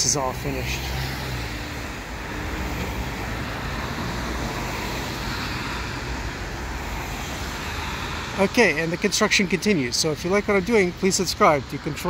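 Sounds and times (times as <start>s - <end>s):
cars passing on street: 0.0s - 12.0s.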